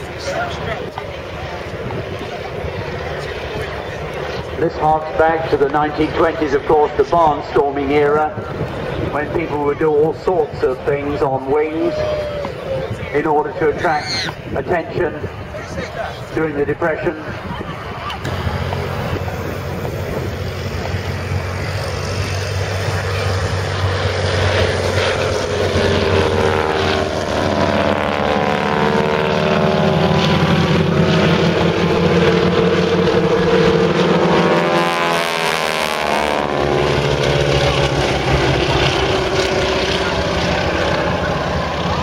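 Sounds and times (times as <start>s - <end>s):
propeller plane engines droning: 0.0s - 42.0s.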